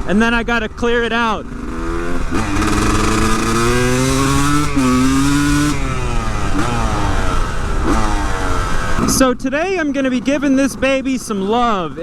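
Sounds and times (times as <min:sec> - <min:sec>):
two-stroke engine revving hard: 0:00.0 - 0:12.0.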